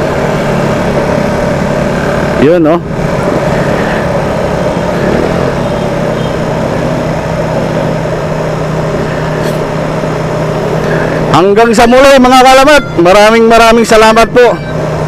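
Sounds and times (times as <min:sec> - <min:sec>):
constant noise haze: 0:00.0 - 0:15.0
motorcycle engine running: 0:00.0 - 0:15.0.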